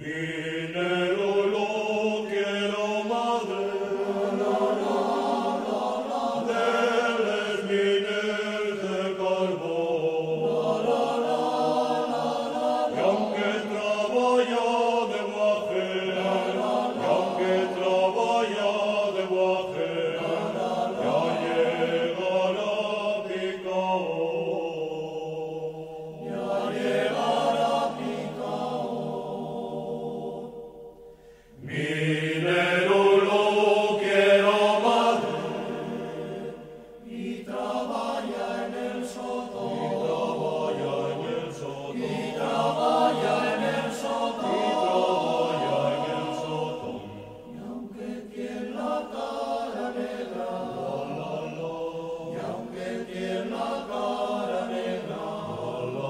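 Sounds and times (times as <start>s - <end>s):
slow vocal chant: 0.0s - 56.0s.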